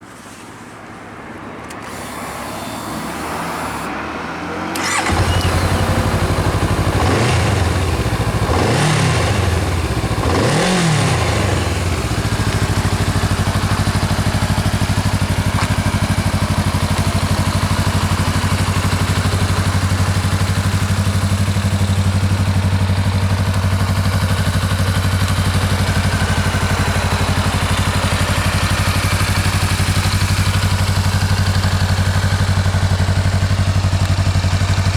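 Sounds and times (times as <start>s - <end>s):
motorcycle engine revving and idling: 1.8s - 34.9s.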